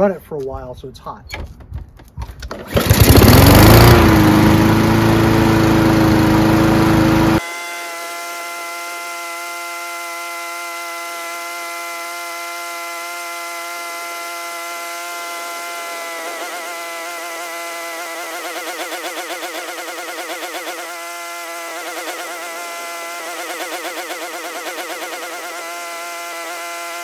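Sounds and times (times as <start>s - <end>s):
lawn mower engine running: 2.4s - 27.0s.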